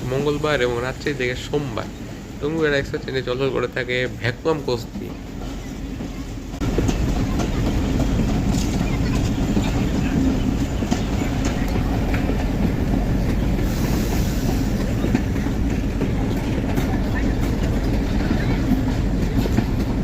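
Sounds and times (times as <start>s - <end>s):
train rumbling along track: 0.0s - 20.0s
wheels clattering over rail joints: 0.0s - 20.0s.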